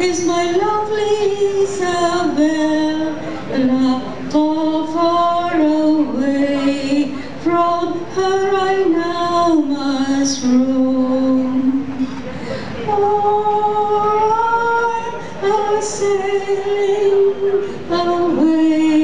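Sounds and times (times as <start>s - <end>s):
woman singing into microphone: 0.0s - 19.0s.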